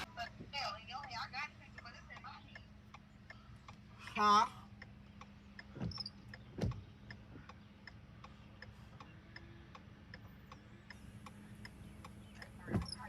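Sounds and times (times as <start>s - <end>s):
car indicator ticking: 0.0s - 13.0s.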